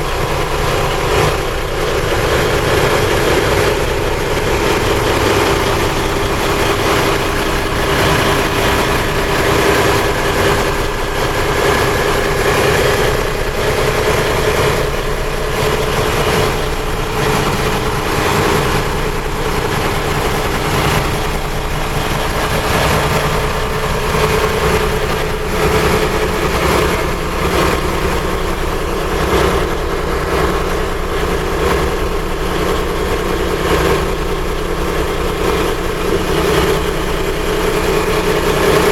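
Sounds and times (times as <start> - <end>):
boat diesel engine running: 0.0 - 38.9.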